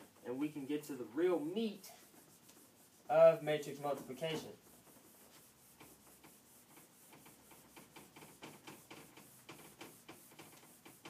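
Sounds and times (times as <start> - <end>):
eraser wiping whiteboard: 0.0 - 11.0.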